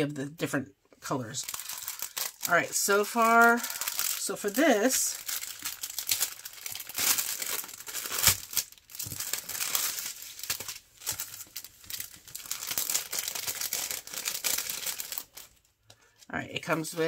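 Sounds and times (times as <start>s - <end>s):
cellophane sleeve crinkling: 1.3s - 17.0s.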